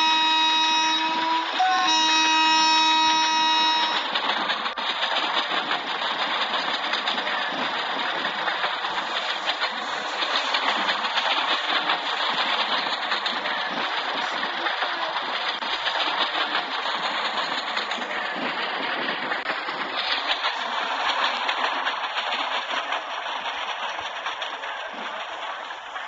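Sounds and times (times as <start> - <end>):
train rushing on track: 0.0 - 26.0.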